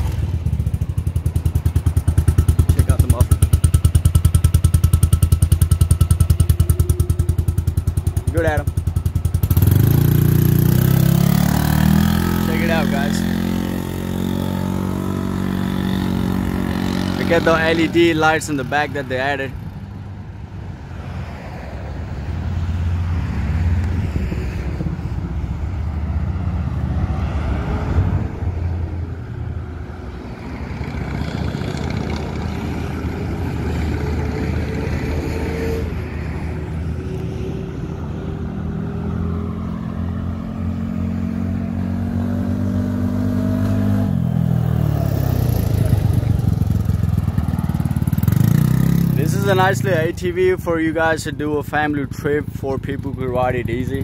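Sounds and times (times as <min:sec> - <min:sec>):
utility vehicle engine accelerating: 0:00.0 - 0:54.0.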